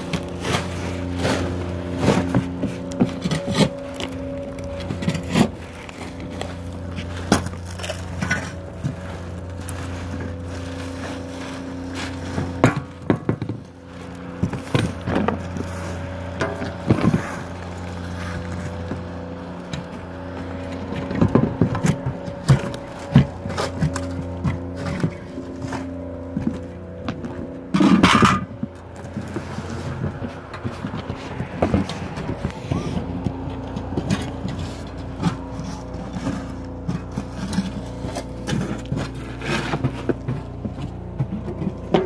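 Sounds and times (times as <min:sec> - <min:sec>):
shovel scraping roofing off wood: 0:00.0 - 0:42.0
steady machine hum: 0:00.0 - 0:42.0.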